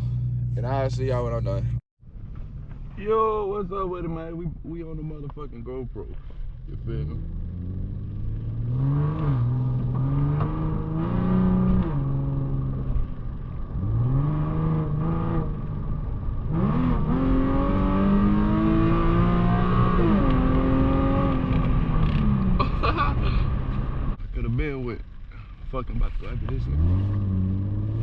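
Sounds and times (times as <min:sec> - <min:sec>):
car engine revving: 0:00.0 - 0:03.1, 0:06.2 - 0:28.0.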